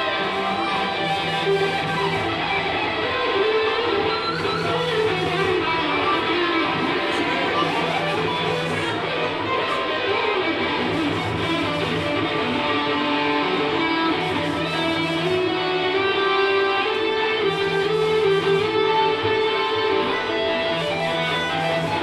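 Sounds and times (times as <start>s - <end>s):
solo electric guitar: 0.0s - 22.0s.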